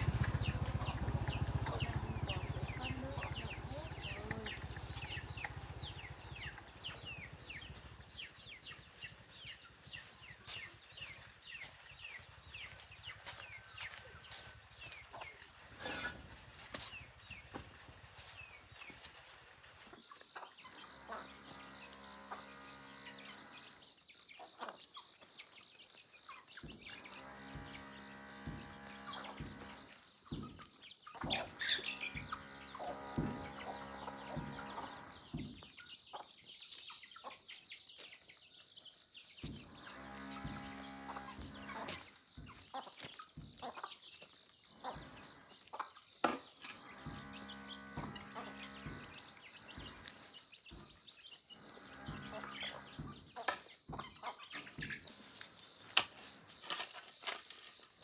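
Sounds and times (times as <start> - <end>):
birds calling: 0.0 - 58.0
insects droning: 0.0 - 58.0.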